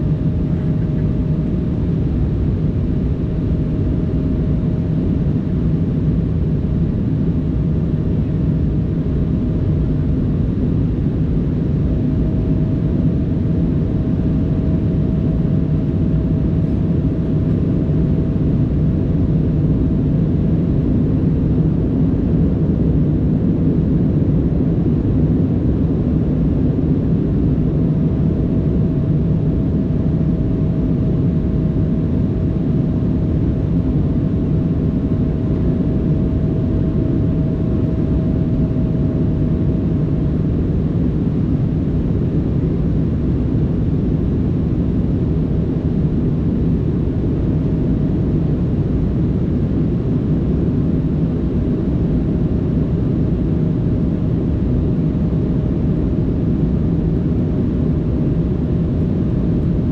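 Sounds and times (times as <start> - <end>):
faint steady whine: 0.0 - 59.9.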